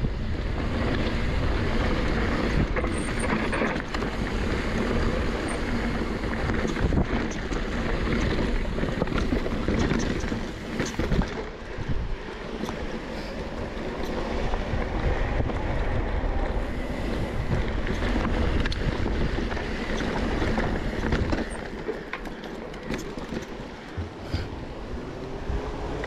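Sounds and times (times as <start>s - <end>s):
bike clicks and rattles: 0.0s - 25.2s
bike rolling on dirt rumble: 0.0s - 26.0s
wind buffeting microphone: 0.0s - 26.0s.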